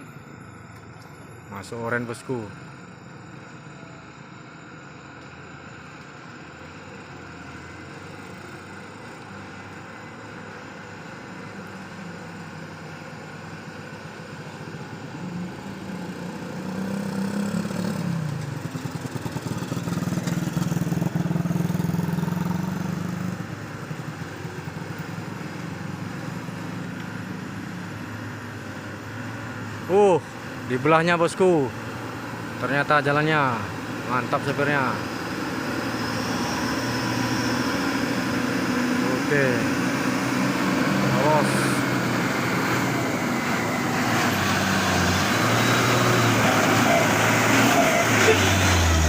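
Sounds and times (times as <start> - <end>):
diesel truck passing: 1.4 - 49.0.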